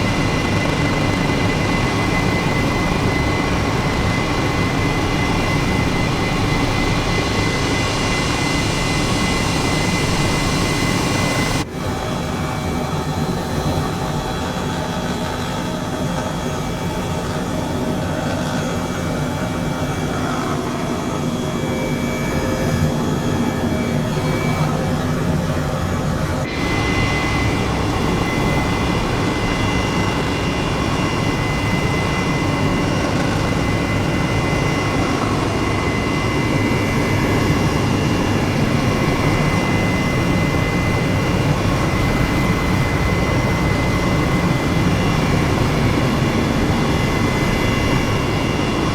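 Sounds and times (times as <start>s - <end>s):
engine drone with whining tones: 0.0s - 48.9s.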